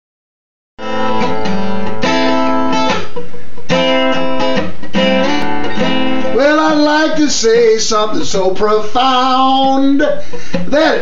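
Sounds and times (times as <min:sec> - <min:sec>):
acoustic guitar strumming chords: 0:00.8 - 0:11.0.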